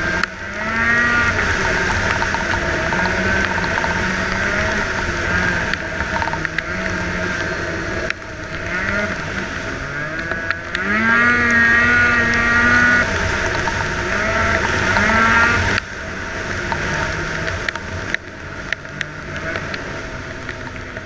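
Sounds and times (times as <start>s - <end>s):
snowmobile engine revving: 0.0s - 17.7s.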